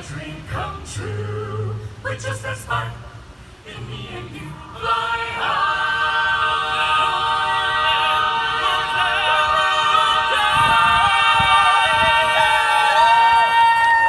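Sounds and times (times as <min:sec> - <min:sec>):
a cappella choir singing: 0:00.0 - 0:14.0.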